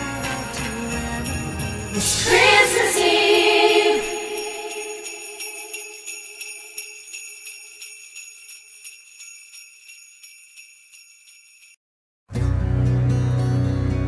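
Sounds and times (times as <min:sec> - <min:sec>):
sleigh bells shaking: 0:00.0 - 0:11.8.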